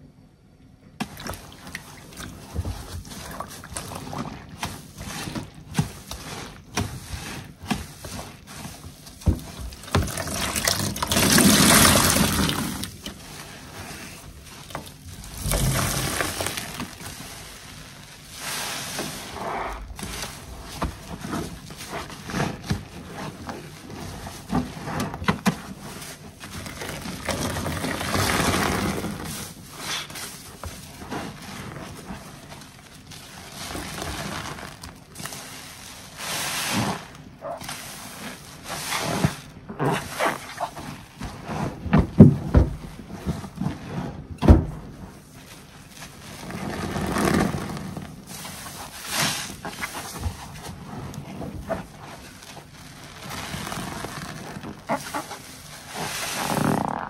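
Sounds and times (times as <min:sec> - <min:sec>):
wet sponges squelching and sloshing: 0:01.0 - 0:57.0.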